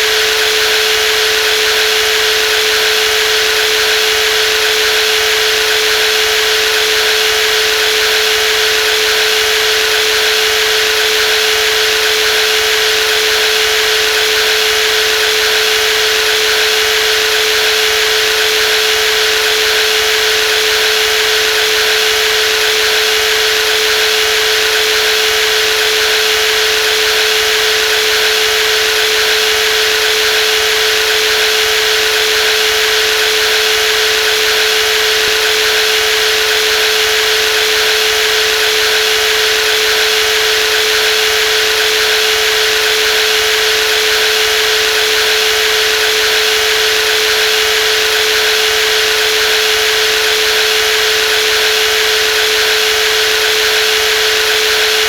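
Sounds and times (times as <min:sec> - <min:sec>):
jigsaw motor whining: 0:00.0 - 0:55.0.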